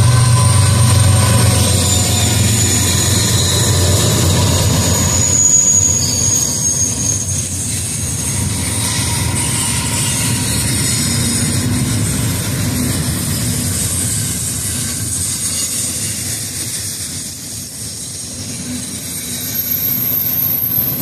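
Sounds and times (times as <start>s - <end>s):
diesel locomotive engine drone: 0.0s - 21.0s
high wheel squeal: 0.0s - 21.0s
train wheels rumbling: 0.0s - 21.0s.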